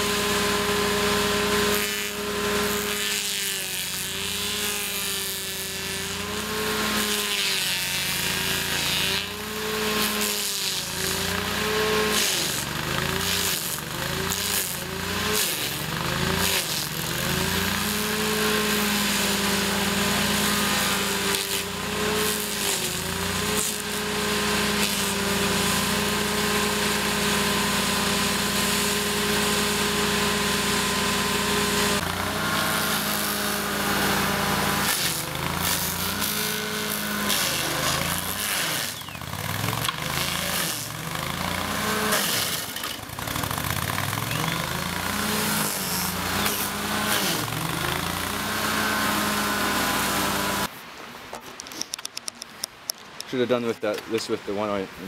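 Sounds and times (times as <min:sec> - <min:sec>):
stump grinder engine: 0:00.0 - 0:50.7
wood being ground: 0:00.0 - 0:50.8.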